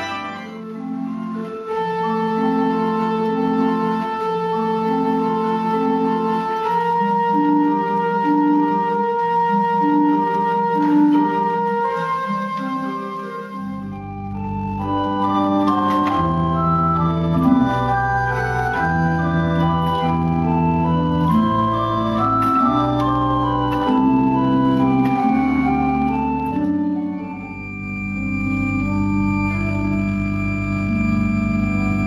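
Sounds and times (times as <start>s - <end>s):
organ bass line: 0.0s - 32.0s
pipe organ sustained notes: 0.0s - 32.0s.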